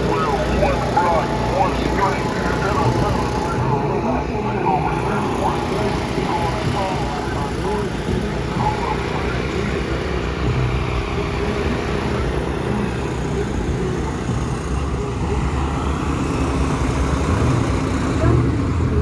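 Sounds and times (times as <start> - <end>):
car engines rumbling: 0.0 - 19.0
street noise: 0.0 - 19.0.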